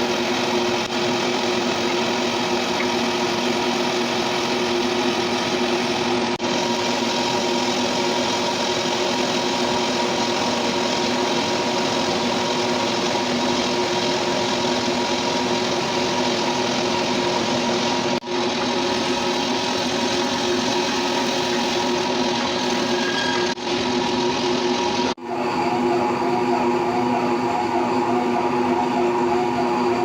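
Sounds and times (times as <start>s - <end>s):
metal lathe whirring: 0.0s - 30.0s.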